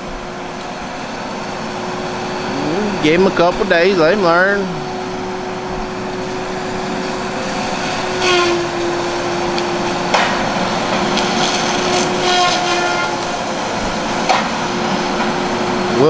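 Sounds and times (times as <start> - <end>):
engine and hydraulic drone: 0.0 - 16.0
hydraulic whine: 0.0 - 16.0.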